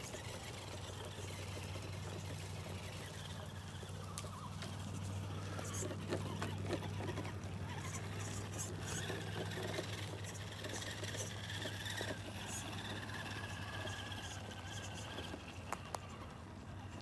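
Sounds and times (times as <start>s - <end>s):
electric motor whine: 0.0s - 17.0s
steady low hum: 0.0s - 17.0s.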